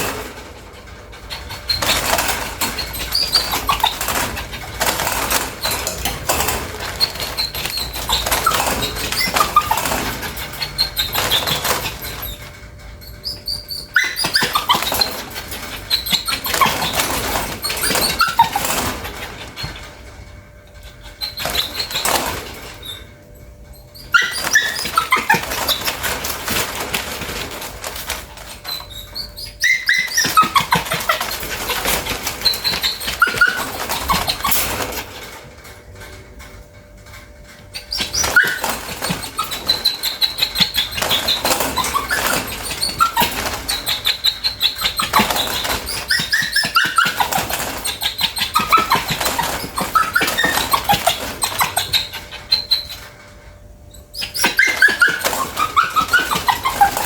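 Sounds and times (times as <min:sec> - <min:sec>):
dog whining: 0:00.0 - 0:35.4, 0:37.6 - 0:57.0.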